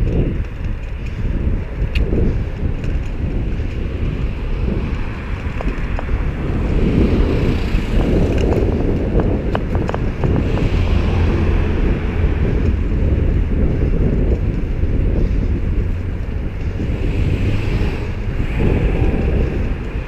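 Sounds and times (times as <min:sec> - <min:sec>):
road traffic noise: 0:00.0 - 0:20.0
wind buffeting microphone: 0:00.0 - 0:20.0.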